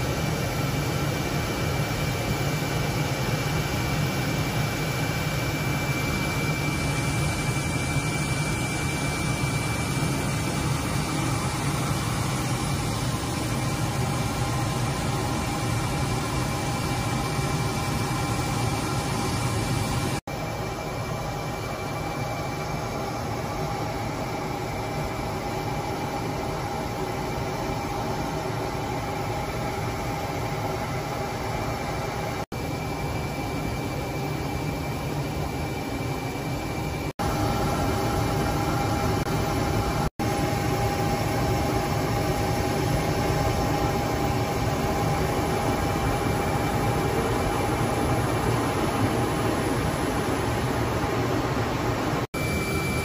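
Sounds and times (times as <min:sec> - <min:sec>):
fighter jet cockpit noise: 0:00.0 - 0:53.0.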